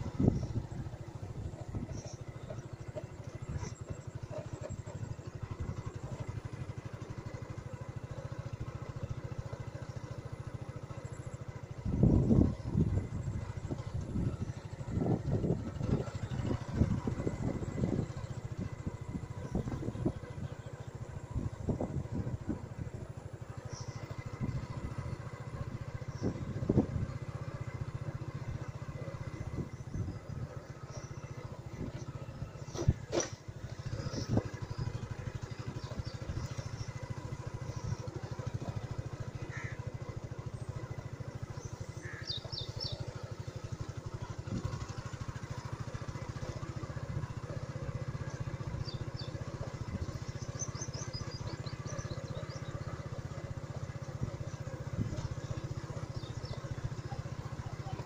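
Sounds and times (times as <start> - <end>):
small motorcycle engine running: 0.0 - 58.0.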